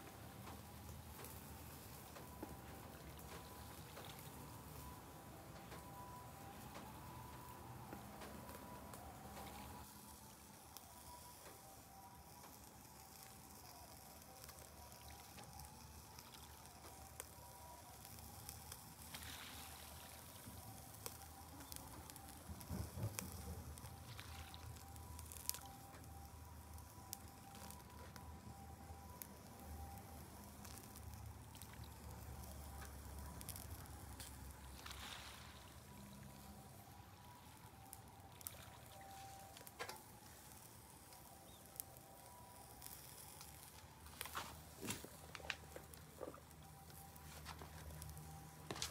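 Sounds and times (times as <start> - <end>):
charcoal crackles and pops: 0.0 - 48.9
meat sizzling on grill: 7.2 - 48.9.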